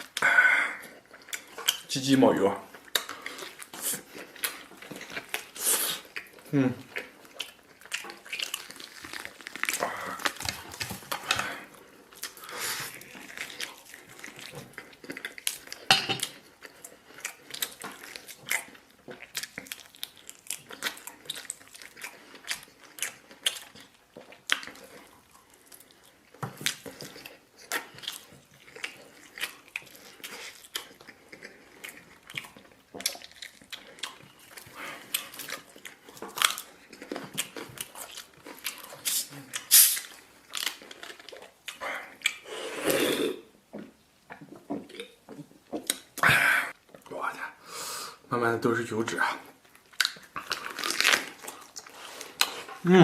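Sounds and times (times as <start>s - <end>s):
person chewing: 0.0s - 1.9s, 2.6s - 48.3s, 49.4s - 53.0s.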